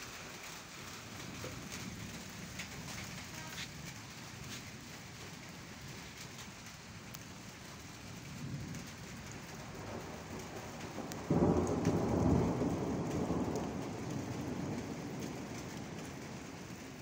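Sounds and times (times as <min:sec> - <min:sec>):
steady rain: 0:00.0 - 0:17.0
thunder rumbling: 0:00.0 - 0:17.0.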